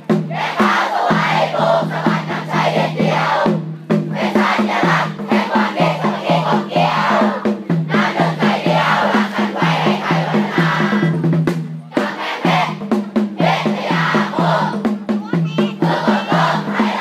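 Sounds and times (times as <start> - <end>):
music with rhythmic beat: 0.0 - 17.0
crowd singing a cheer song: 0.1 - 15.0, 15.6 - 17.0.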